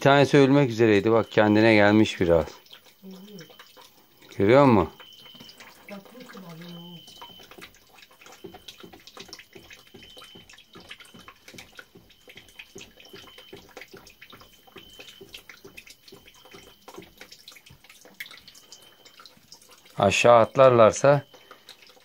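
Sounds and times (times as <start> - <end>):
water drips and splashes: 0.0 - 22.0
water trickling into a basin: 0.0 - 22.0.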